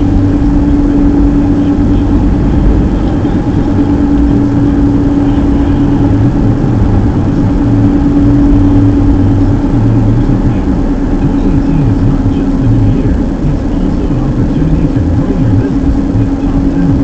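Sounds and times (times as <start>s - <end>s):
car engine and tyres rumbling: 0.0s - 17.0s
constant low hum: 0.0s - 17.0s.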